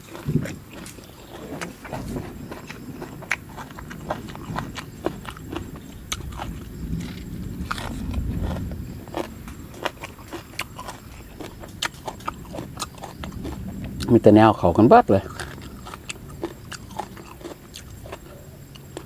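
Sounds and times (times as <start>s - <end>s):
person chewing with mouth smacks: 0.0s - 14.1s, 15.2s - 19.0s.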